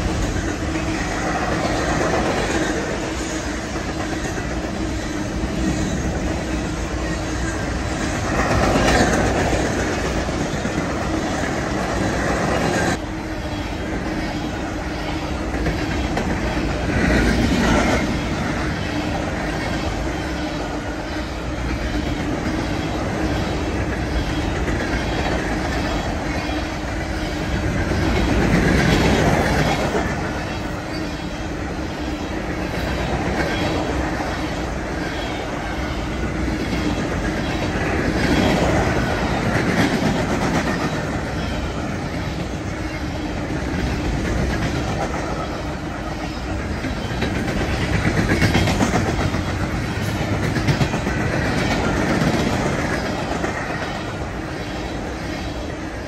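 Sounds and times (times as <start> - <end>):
train wheels clicking over rail joints: 0.0 - 55.6.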